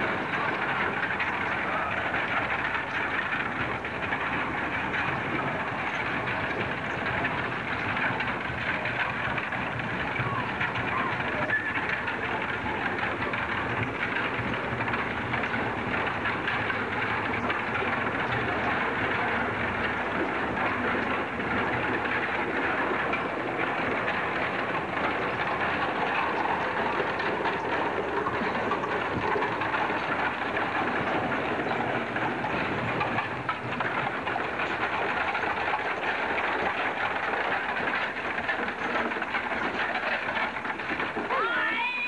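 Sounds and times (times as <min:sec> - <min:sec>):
wagon wheels rattling on gravel: 0:00.0 - 0:42.0.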